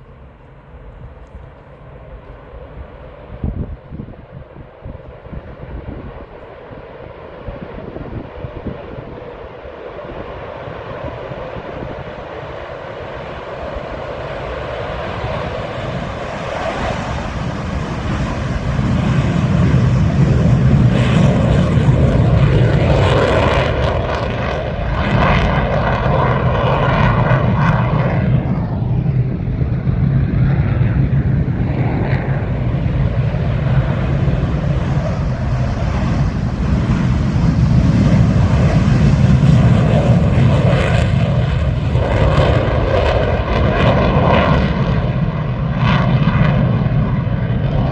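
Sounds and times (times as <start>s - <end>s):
propeller aircraft engines: 0.0s - 47.9s.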